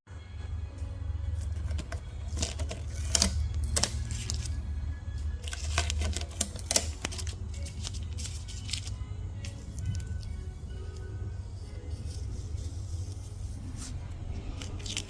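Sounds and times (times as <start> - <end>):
background music: 0.1 - 15.0
steady low hum: 0.1 - 15.0
tape peeling off: 1.4 - 4.6, 5.4 - 15.0.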